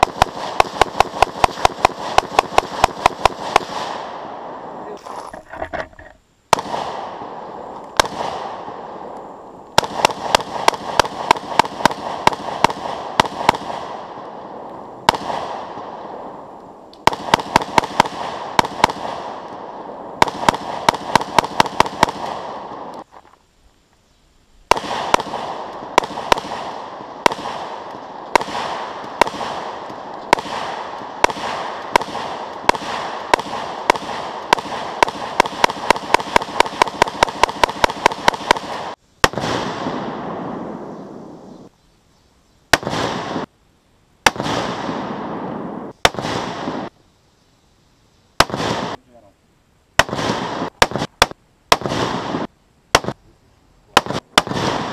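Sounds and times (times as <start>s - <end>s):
rifle shots with ringing echo: 0.0s - 23.0s, 24.7s - 41.5s, 42.7s - 43.5s, 44.2s - 46.9s, 48.4s - 49.0s, 50.0s - 53.2s, 54.0s - 54.9s.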